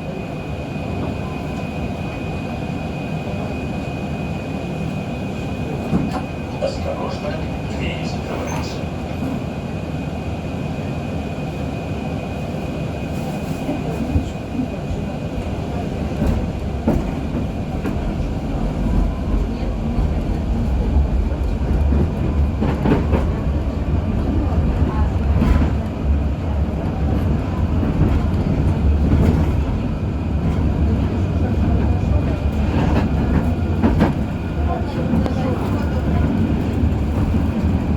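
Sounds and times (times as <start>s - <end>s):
tram wheels rumbling on rail: 0.0s - 37.9s.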